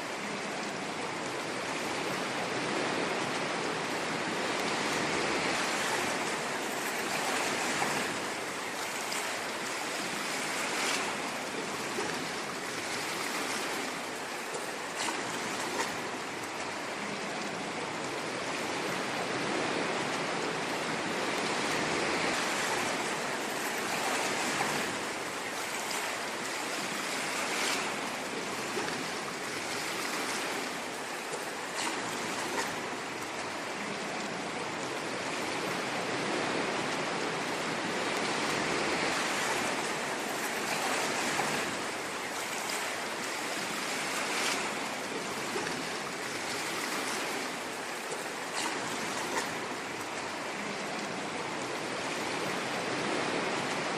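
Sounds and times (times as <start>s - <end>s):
ocean waves washing onto shore: 0.0s - 53.9s.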